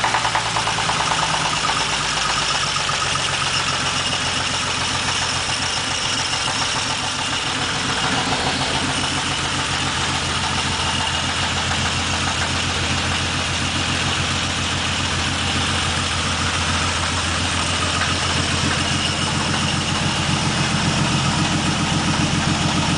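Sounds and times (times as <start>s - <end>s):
car engine idling: 0.0s - 22.9s
engine knocking: 0.0s - 22.9s.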